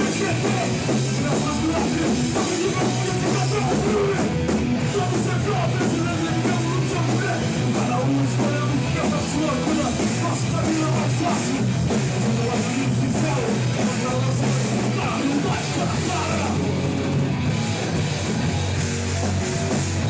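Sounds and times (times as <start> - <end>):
punk band playing live: 0.0 - 20.0.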